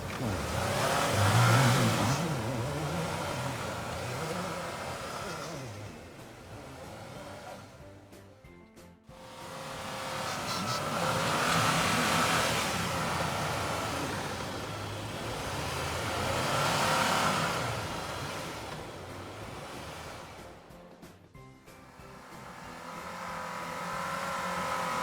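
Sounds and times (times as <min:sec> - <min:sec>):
engine revving under load: 0:00.0 - 0:08.4, 0:09.1 - 0:21.0, 0:21.7 - 0:25.0.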